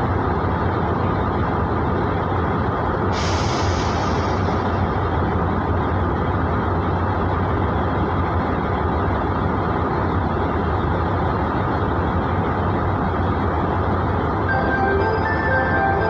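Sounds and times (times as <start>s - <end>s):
diesel railcar engines humming: 0.0s - 16.0s.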